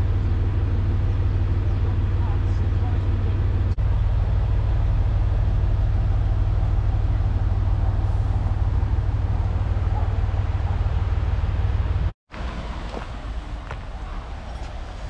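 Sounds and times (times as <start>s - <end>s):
crane diesel engine running: 0.0s - 15.0s.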